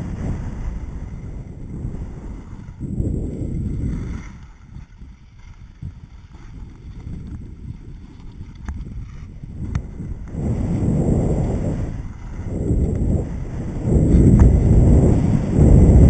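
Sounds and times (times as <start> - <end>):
skis running on snow: 0.0 - 16.0
wind rumbling on microphone: 0.0 - 16.0.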